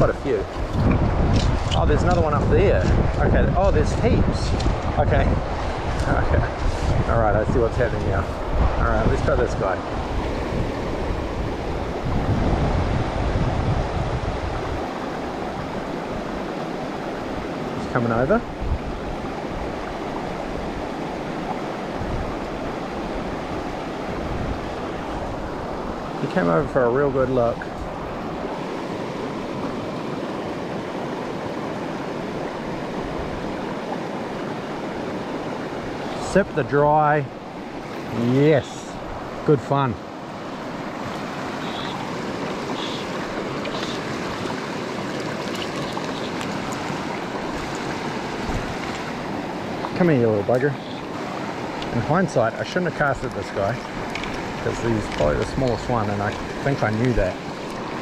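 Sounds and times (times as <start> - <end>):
river water rushing over stones: 0.0 - 58.0.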